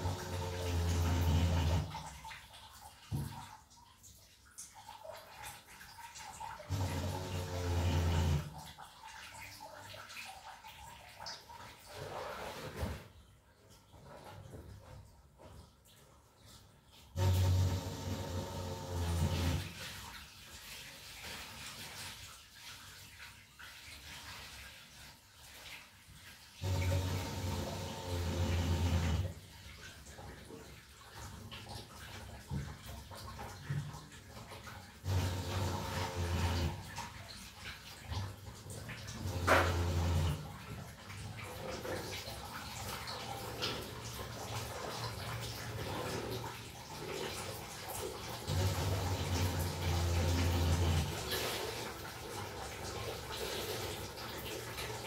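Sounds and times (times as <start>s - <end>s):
water running and dripping: 0.0s - 55.0s.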